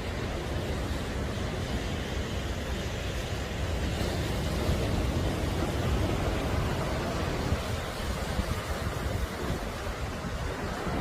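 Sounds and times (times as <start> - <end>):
low wind rumble: 0.0 - 11.0
sea surf washing on shore: 0.0 - 11.0.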